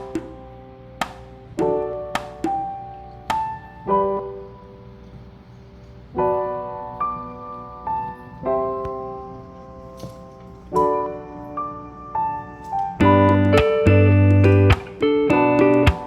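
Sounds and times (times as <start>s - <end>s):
piano notes and chords: 0.0s - 16.0s.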